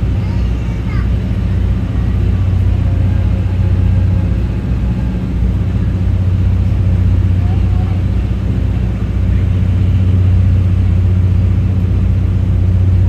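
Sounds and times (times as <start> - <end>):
engine drone: 0.0 - 13.0
passenger coach rumble: 0.0 - 13.0.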